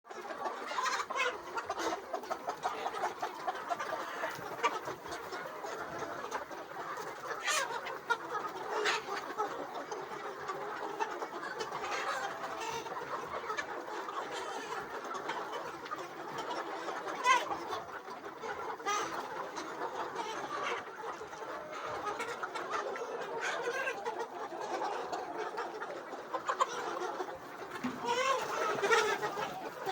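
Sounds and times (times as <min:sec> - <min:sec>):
chickens clucking: 0:00.1 - 0:29.9
sharp chicken calls: 0:00.1 - 0:29.9.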